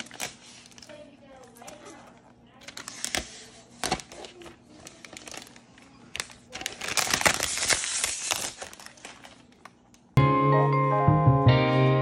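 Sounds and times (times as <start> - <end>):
plastic wrap crinkling: 0.0 - 10.2.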